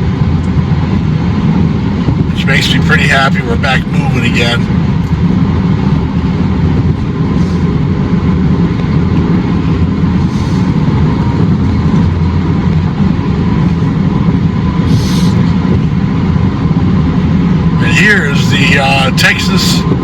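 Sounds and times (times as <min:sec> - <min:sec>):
car driving at highway speed: 0:00.0 - 0:20.0.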